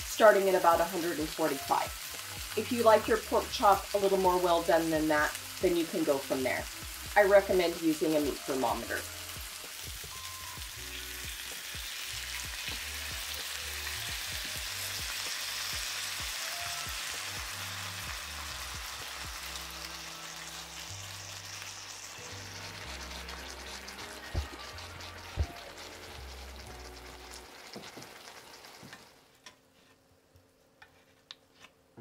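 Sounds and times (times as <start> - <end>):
meat sizzling in a skillet: 0.0 - 29.4.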